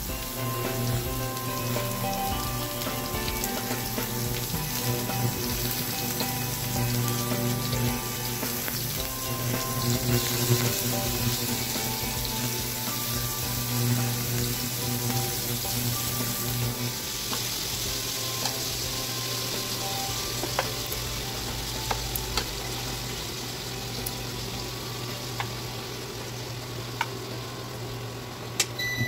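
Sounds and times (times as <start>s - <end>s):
chicken sizzling in a wok: 0.0s - 29.0s
soft background music: 0.0s - 29.0s.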